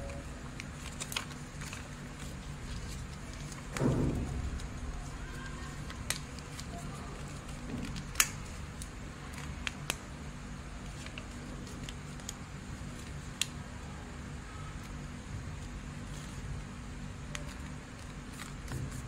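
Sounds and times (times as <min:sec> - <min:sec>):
paper being folded and creased: 0:00.0 - 0:10.0, 0:10.8 - 0:13.6, 0:14.7 - 0:19.0.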